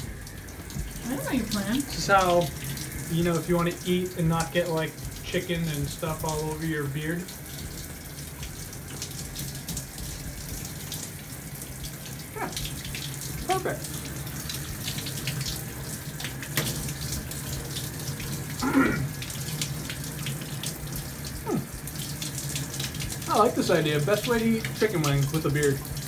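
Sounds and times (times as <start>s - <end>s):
shower spraying water: 0.0s - 26.0s.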